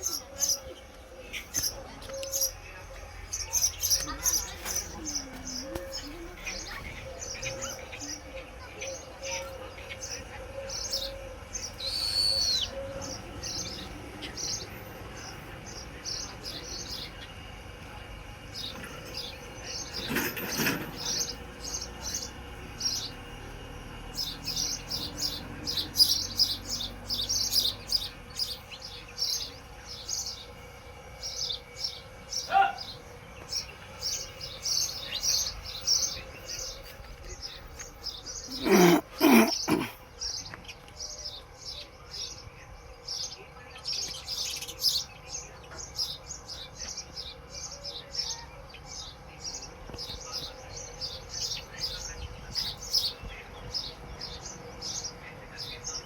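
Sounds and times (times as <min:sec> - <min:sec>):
harsh bird calls: 0:00.0 - 0:17.7, 0:18.3 - 0:56.0
small birds chirping: 0:00.0 - 0:56.0.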